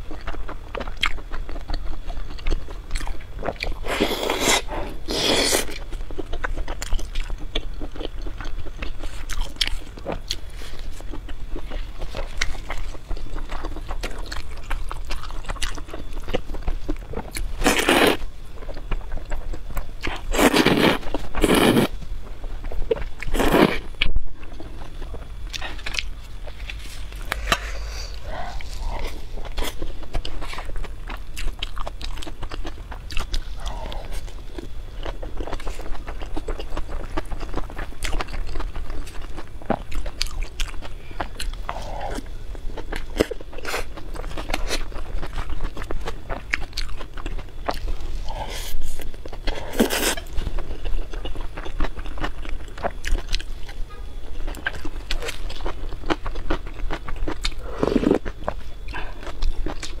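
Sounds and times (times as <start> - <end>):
person chewing and crunching: 0.0 - 60.0.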